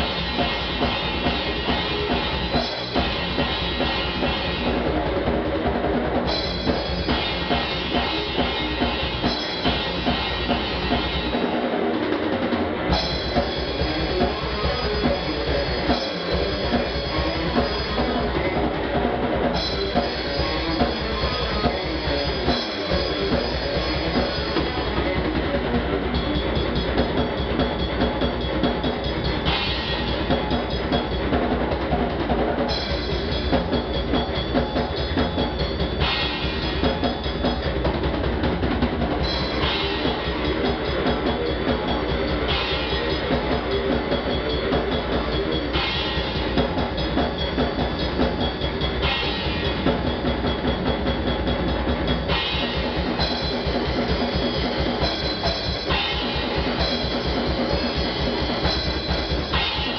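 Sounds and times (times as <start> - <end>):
cymbals: 0.0 - 5.5, 6.2 - 59.9
fast dense drumming: 0.0 - 59.9
heavy electric guitar riff: 0.0 - 59.9.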